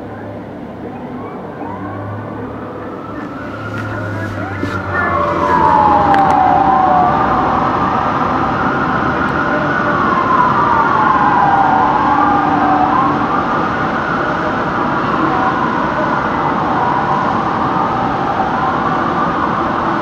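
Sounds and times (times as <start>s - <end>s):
fire engine siren wailing: 0.0s - 20.0s.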